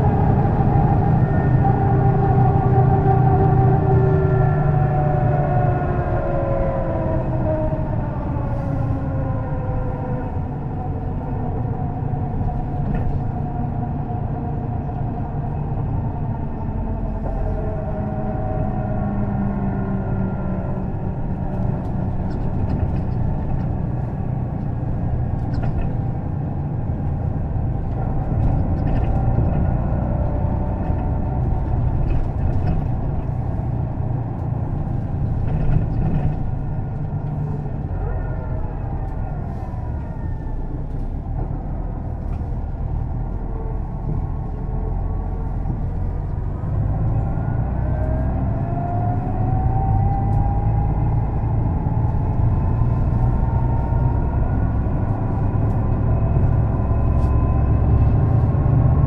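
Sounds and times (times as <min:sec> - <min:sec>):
bus engine rumble: 0:00.0 - 0:59.0.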